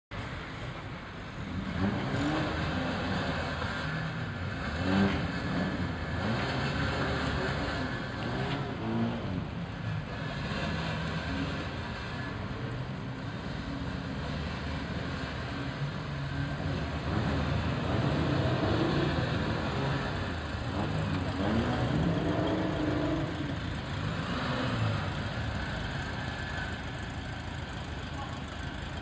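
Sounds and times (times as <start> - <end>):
car engine revving: 1.5 - 29.0.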